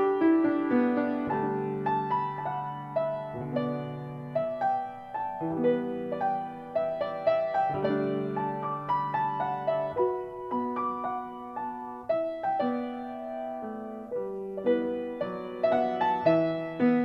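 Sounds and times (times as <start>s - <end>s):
soft slow piano music: 0.0s - 17.0s.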